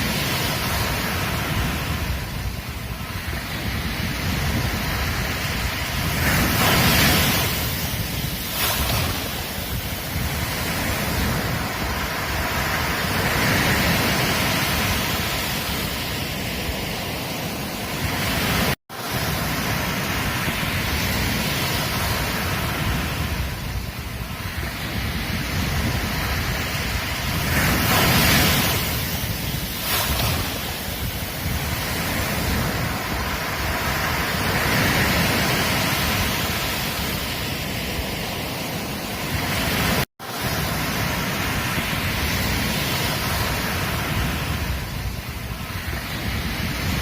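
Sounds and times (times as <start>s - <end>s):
waves breaking on beach: 0.0s - 47.0s
wind buffeting microphone: 0.0s - 47.0s.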